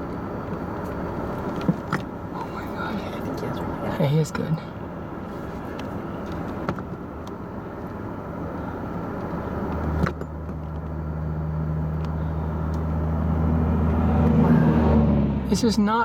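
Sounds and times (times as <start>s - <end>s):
car engine: 0.0s - 16.0s
road noise: 0.0s - 16.0s.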